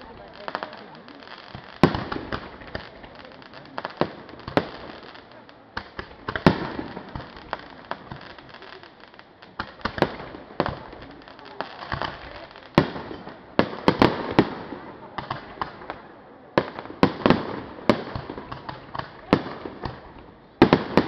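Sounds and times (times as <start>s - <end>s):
fireworks bangs and pops: 0.0s - 21.0s
fireworks crackling: 0.0s - 21.0s.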